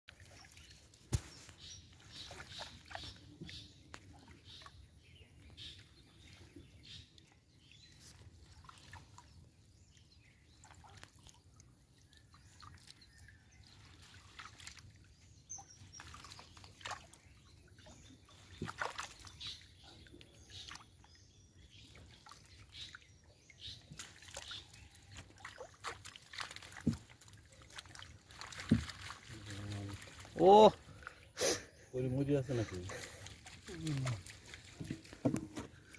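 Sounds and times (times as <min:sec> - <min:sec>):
water dripping and sloshing: 0:00.1 - 0:31.4, 0:32.0 - 0:35.9
water splashes: 0:00.1 - 0:35.9.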